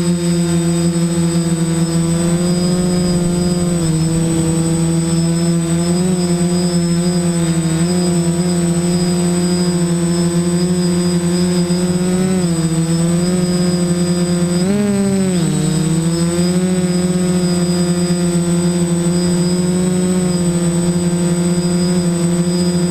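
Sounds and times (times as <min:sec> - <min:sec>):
drone motors whining: 0:00.0 - 0:22.9.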